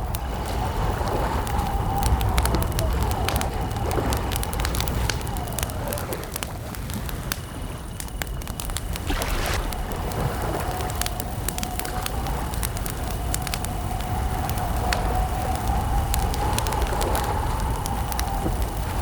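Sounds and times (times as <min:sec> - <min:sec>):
campfire crackling and popping: 0:00.0 - 0:19.0
crickets trilling: 0:00.0 - 0:19.0.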